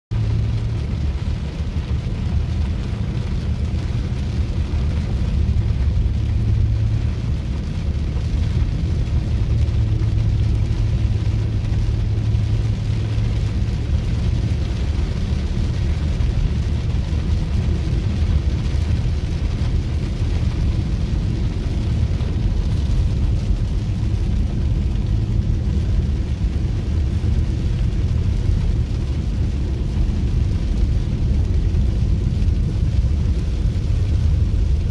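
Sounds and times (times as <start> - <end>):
road and engine rumble: 0.1 - 34.9
rain hiss: 0.2 - 34.9.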